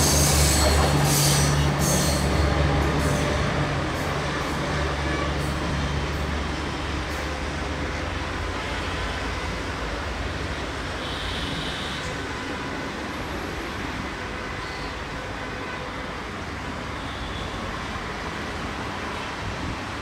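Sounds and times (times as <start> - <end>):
city traffic hum: 0.0 - 20.0
train rumbling on track: 0.0 - 20.0.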